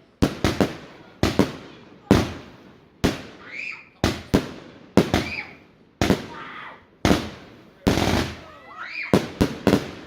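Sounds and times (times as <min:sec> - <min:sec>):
fireworks bangs: 0:00.2 - 0:10.0.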